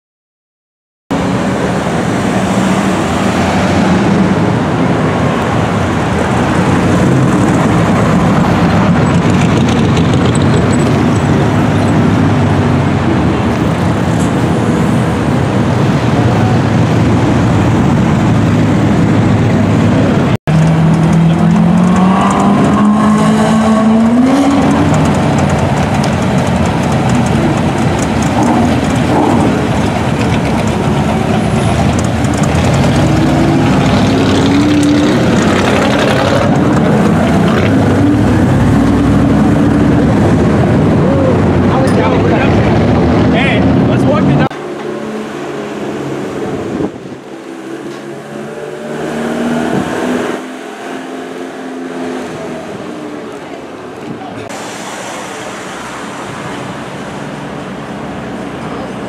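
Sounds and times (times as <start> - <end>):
car engine revving: 1.1 - 58.9
car engines in slow traffic: 1.2 - 59.0.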